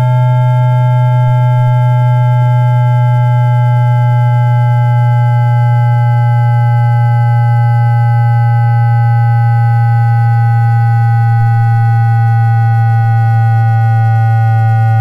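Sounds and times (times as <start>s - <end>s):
strong low hum: 0.0s - 15.0s.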